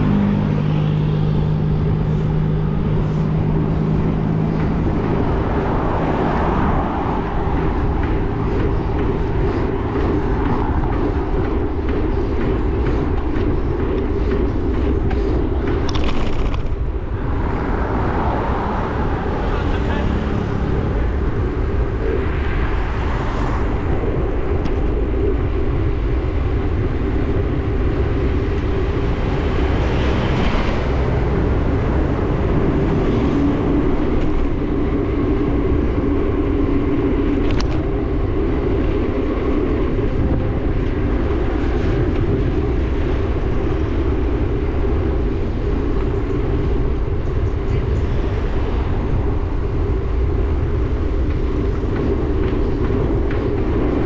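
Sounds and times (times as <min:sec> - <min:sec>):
bike road noise: 0:00.0 - 0:54.0
passing traffic: 0:00.0 - 0:54.0
wind rushing over microphone: 0:00.0 - 0:54.0.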